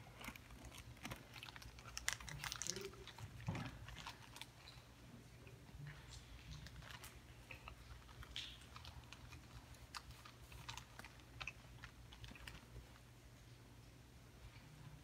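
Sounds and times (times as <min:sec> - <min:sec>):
small clicks and crinkles of handling: 0:00.0 - 0:04.9, 0:05.8 - 0:14.7
low steady hum: 0:00.0 - 0:15.0.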